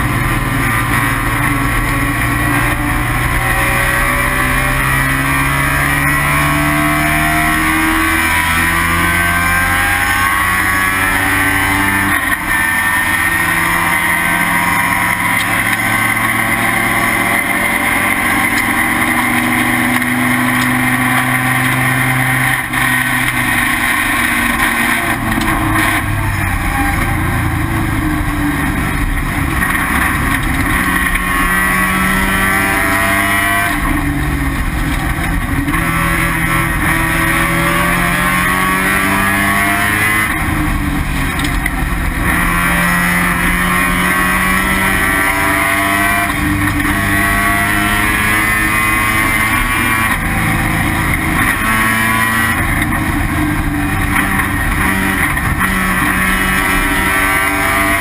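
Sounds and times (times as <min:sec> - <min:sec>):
road and wind noise: 0:00.0 - 0:58.0
rotary engine revving: 0:00.0 - 0:58.0.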